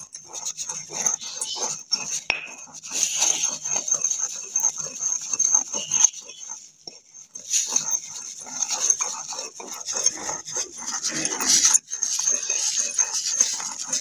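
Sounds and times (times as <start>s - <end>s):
pestle grinding in mortar: 0.0s - 14.0s.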